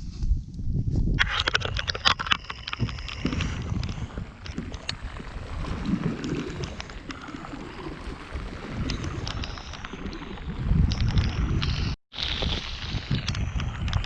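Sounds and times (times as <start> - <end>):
wind on microphone: 0.0 - 14.0
water sloshing against hull: 1.2 - 14.0.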